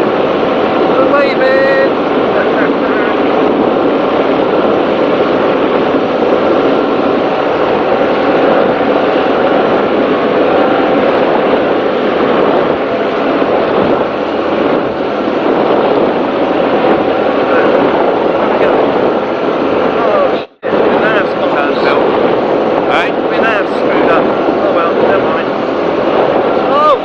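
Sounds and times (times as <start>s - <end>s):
powerboat engines droning: 0.0s - 27.0s
rushing wind: 0.0s - 27.0s
water rushing off hull: 0.0s - 27.0s.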